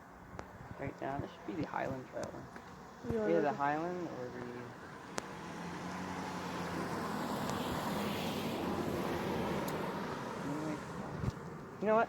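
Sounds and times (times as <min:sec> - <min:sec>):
passing vehicle engine: 0:00.8 - 0:12.0.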